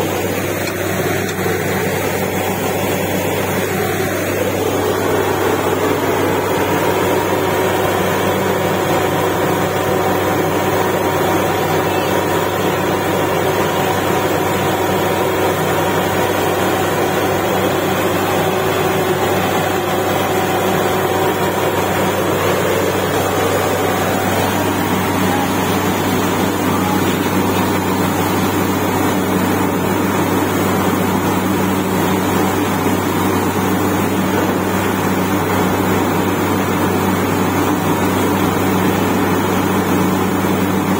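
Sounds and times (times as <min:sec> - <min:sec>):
drilling rig engine running: 0:00.0 - 0:40.9.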